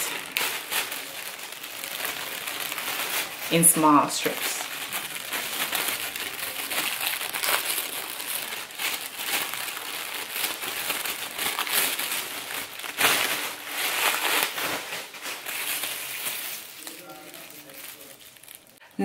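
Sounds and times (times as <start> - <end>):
plastic bag crinkling and ripping: 0.0 - 18.8.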